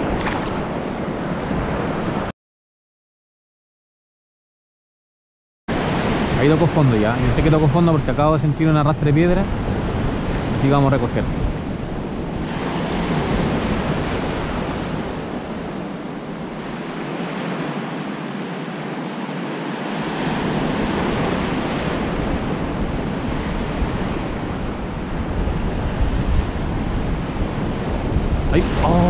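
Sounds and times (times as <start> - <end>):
ocean surf breaking: 0.0 - 2.3, 5.7 - 29.0
wind buffeting microphone: 0.0 - 2.3, 5.7 - 29.0.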